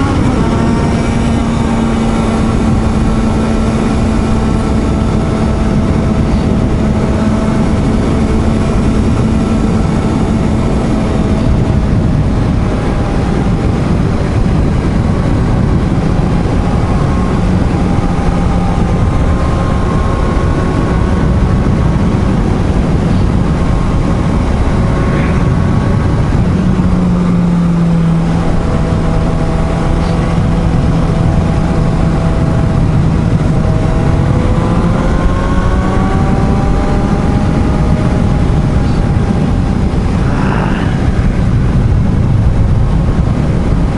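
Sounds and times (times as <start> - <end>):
motorcycle engine cruising: 0.0 - 43.9
wind rushing over microphone: 0.0 - 43.9.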